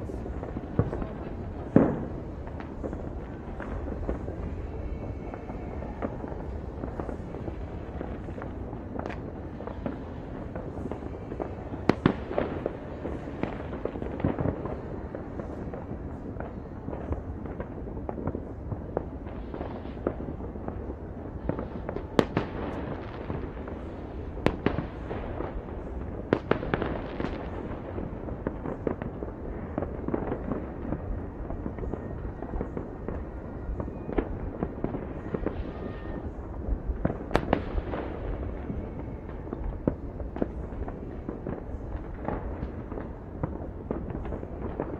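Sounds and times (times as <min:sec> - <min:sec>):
distant fireworks crackling: 0:00.0 - 0:44.9.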